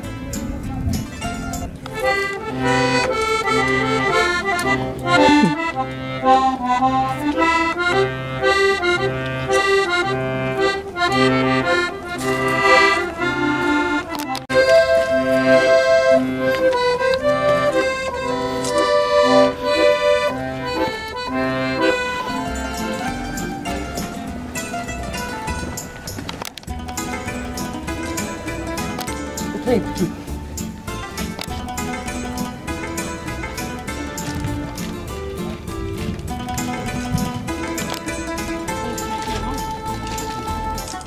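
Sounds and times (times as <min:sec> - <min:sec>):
accordion melody: 0:00.0 - 0:41.0.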